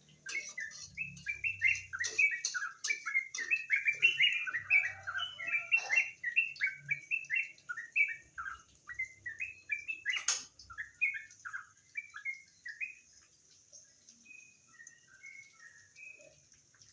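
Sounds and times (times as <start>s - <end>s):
bird chirping: 0.0s - 16.9s.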